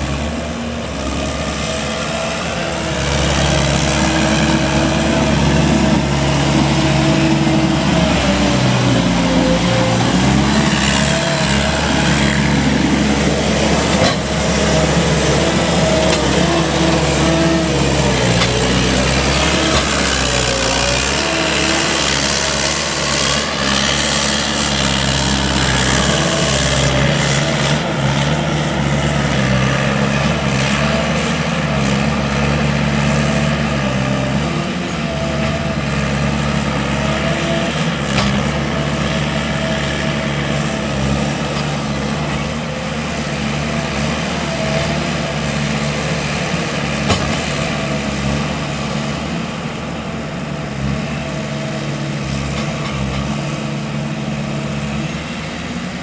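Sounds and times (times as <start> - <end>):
skid steer engine under load: 0.0 - 56.0.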